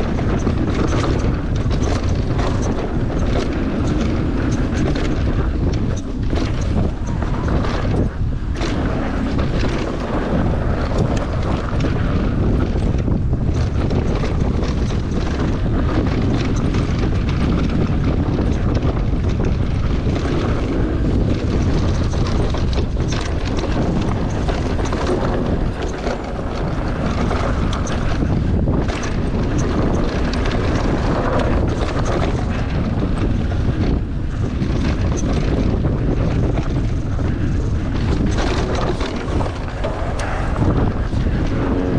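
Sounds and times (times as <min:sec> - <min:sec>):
bike knocking and rattling: 0:00.0 - 0:41.9
tyre and trail noise: 0:00.0 - 0:41.9
wind buffeting microphone: 0:00.0 - 0:41.9.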